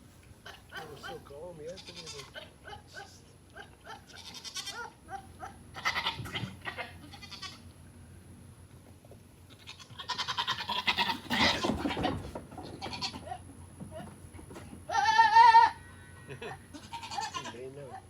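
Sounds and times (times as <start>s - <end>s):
goats bleating: 0.4s - 7.6s, 9.5s - 18.0s
rough noisy goat calls: 0.4s - 7.7s, 9.5s - 18.0s.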